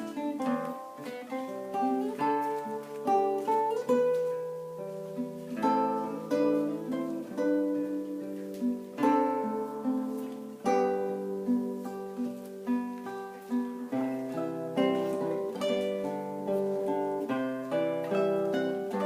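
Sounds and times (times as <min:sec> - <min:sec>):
solo guitar playing: 0:00.0 - 0:19.0.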